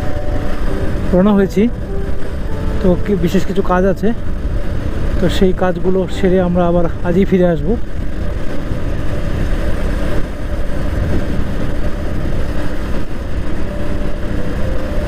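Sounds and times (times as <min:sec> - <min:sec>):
deep wind rumble: 0:00.0 - 0:15.0
faint motorcycle engine hum: 0:00.0 - 0:15.0.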